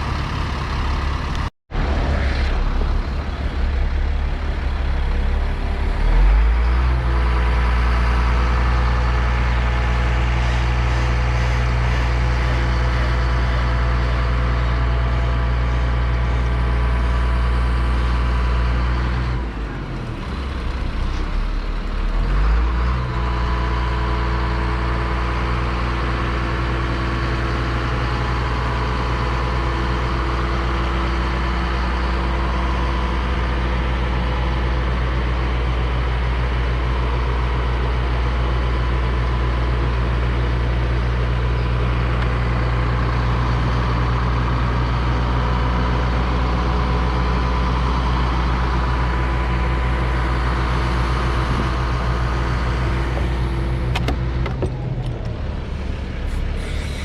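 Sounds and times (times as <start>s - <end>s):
engine revving: 0.0s - 34.7s, 41.7s - 57.0s.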